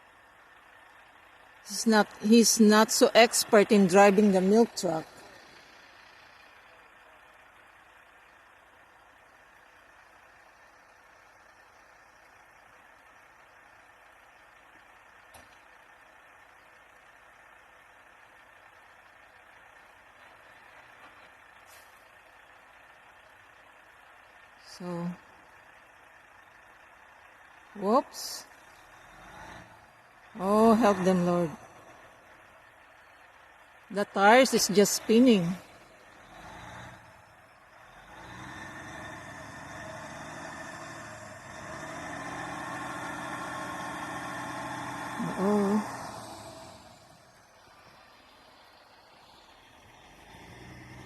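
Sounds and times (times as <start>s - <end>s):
distant heavy vehicle engine: 0.0s - 51.0s
wheels spinning in snow: 0.0s - 51.0s.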